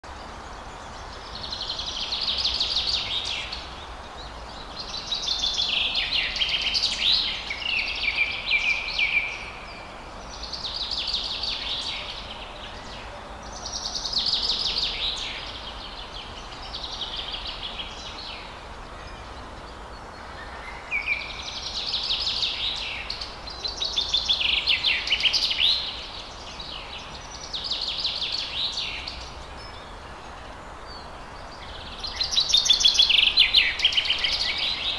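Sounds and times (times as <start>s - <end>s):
faint background hiss: 0.0s - 34.9s
songbird singing: 0.0s - 34.9s.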